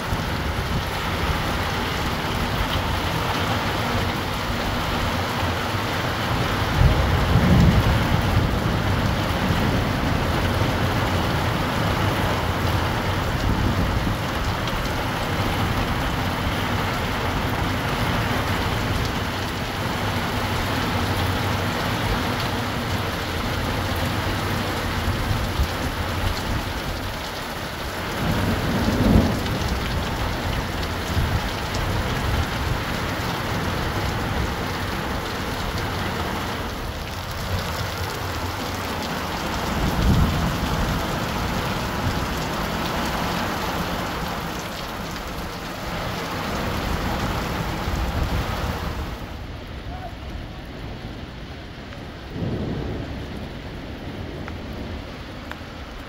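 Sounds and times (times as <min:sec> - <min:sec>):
heavy rain on concrete: 0:00.0 - 0:56.0.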